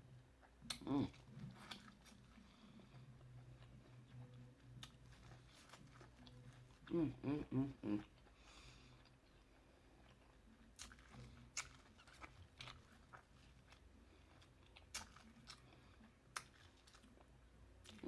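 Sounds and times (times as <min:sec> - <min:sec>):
chewing seafood: 0:00.2 - 0:18.0.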